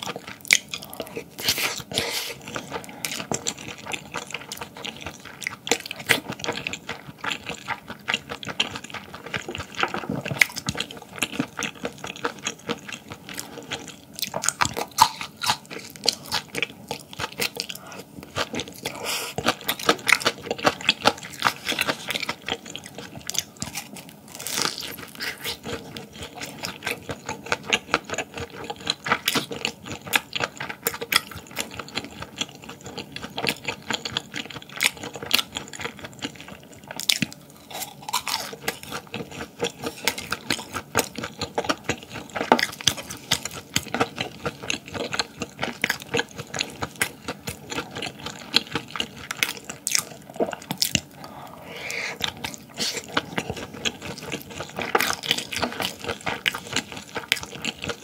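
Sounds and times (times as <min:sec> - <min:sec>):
chewing mouth sounds: 0:00.0 - 0:58.0.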